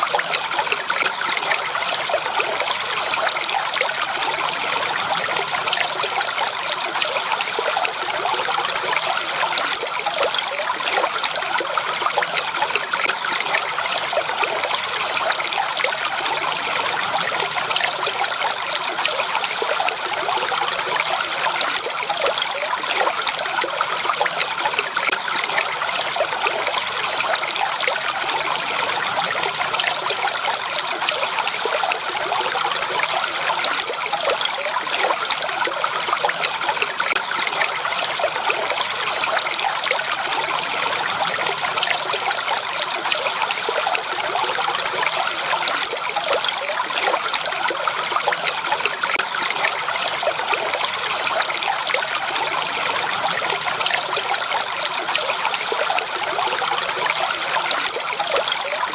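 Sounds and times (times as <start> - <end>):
stream water babbling over stones: 0.0 - 58.9.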